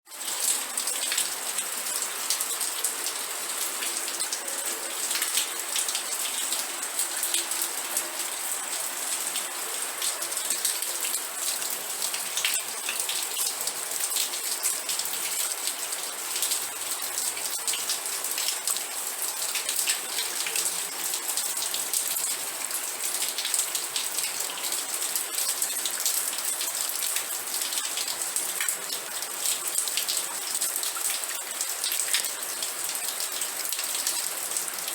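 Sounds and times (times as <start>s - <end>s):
steady rain on a surface: 0.1s - 34.9s.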